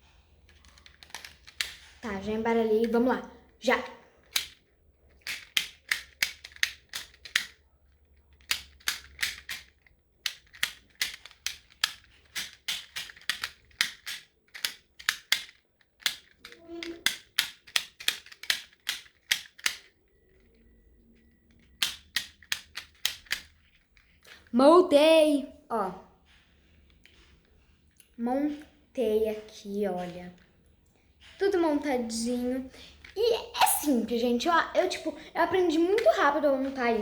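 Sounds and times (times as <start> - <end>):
plastic puzzle pieces clicking: 0.0 - 24.5, 26.2 - 28.7, 29.3 - 37.0.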